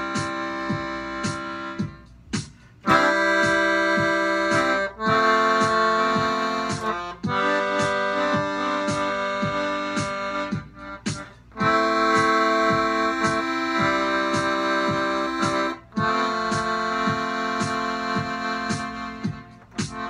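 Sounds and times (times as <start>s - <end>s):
accordion chords: 0.0s - 20.0s
drum machine beat: 0.0s - 20.0s.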